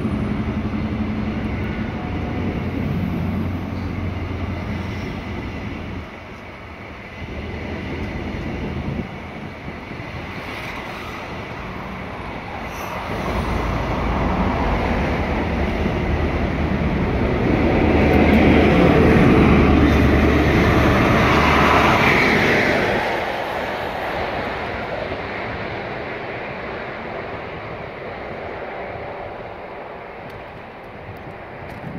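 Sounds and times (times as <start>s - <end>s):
train wheels rolling on rails: 0.0s - 31.9s.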